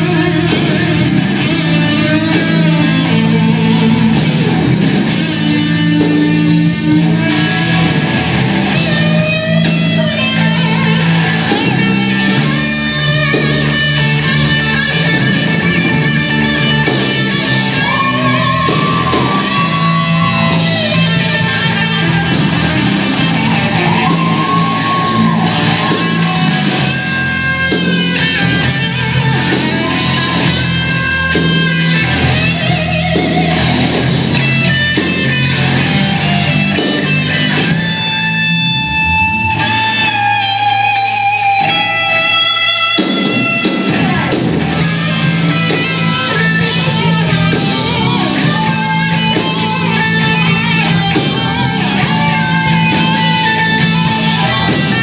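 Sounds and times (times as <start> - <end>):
blues-rock band playing: 0.0 - 55.0
electric guitar lead lines: 0.0 - 55.0.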